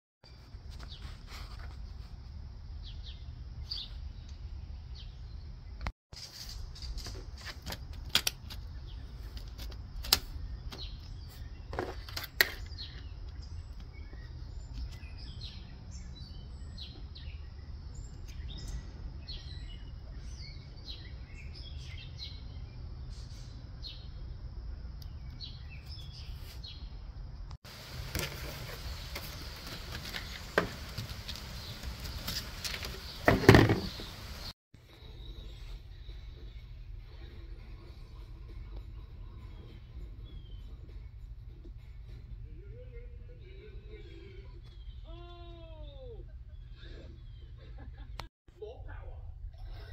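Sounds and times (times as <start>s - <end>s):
small birds chirping: 0.3s - 48.3s.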